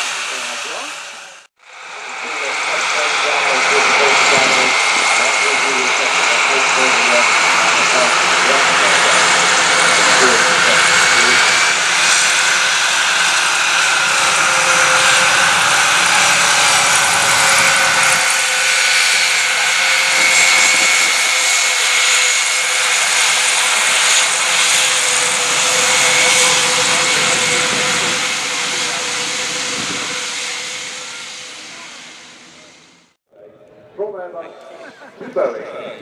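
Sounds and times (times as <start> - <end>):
aircraft engines roaring: 0.0 - 36.0.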